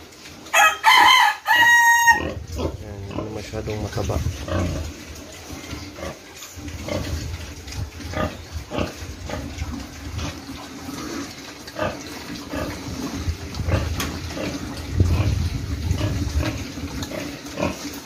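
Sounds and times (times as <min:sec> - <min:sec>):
pigs eating at a trough: 0:00.0 - 0:18.0
pigs grunting: 0:02.2 - 0:18.0.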